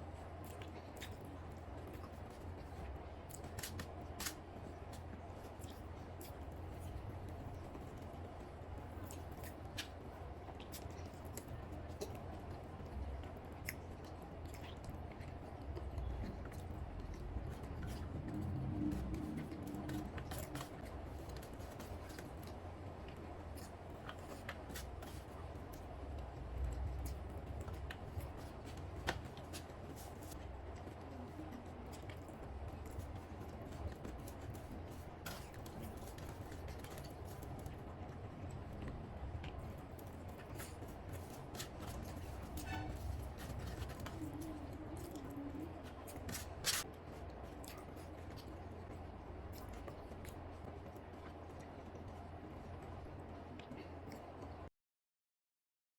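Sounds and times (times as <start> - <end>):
steady low hum: 0.0 - 54.7.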